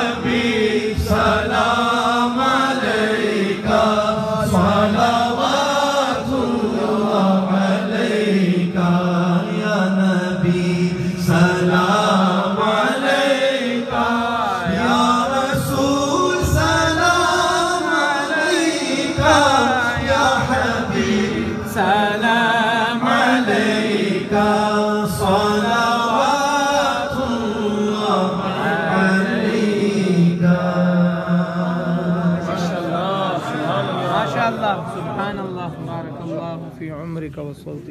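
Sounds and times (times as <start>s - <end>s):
man singing through microphone: 0.0s - 34.2s.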